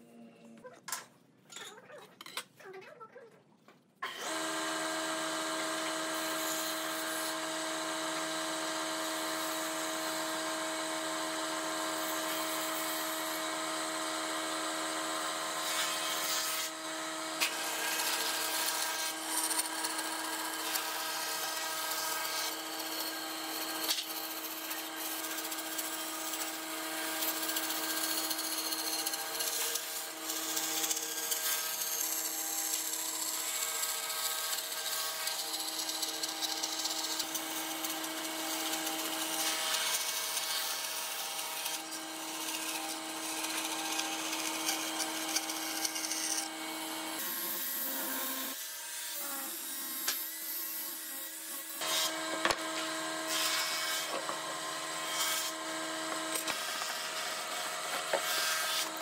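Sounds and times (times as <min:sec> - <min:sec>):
power tool humming: 0:04.0 - 0:59.0.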